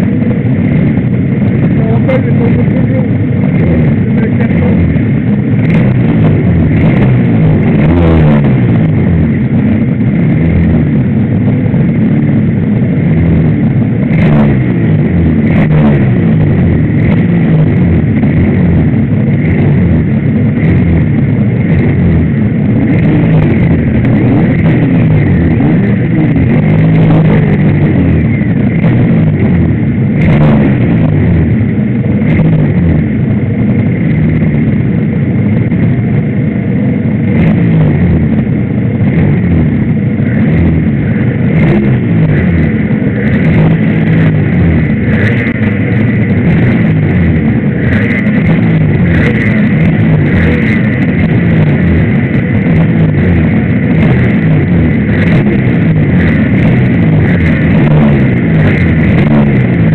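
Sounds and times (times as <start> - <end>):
motorcycle engine revving: 0.0 - 59.9
race motorcycles running: 0.0 - 59.9.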